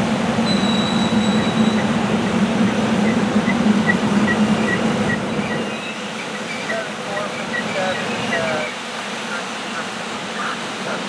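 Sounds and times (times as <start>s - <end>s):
electric train rolling past: 0.0s - 11.0s
wheels rumbling on rail: 0.0s - 11.0s.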